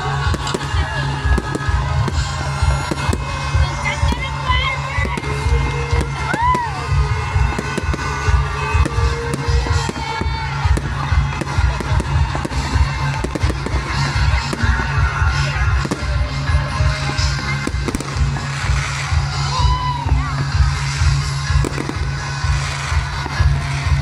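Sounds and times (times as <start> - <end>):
fireworks bangs and crackles: 0.0 - 24.0
loud music: 0.0 - 24.0.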